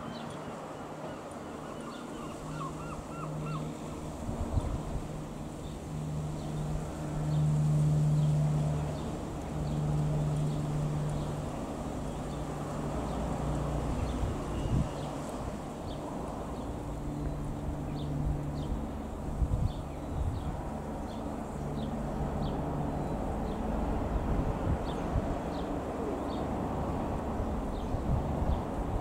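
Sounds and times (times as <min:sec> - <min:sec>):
propeller plane droning: 0:00.0 - 0:29.0.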